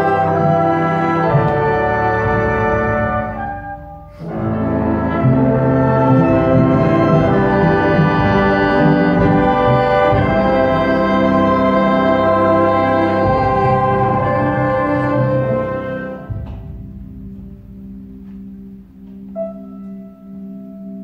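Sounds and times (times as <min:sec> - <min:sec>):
strings and guitars playing chords: 0:00.0 - 0:20.1.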